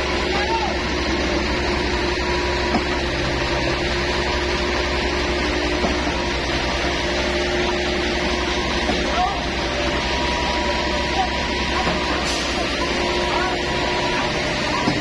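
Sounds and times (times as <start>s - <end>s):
truck engine and machinery drone: 0.0s - 15.0s.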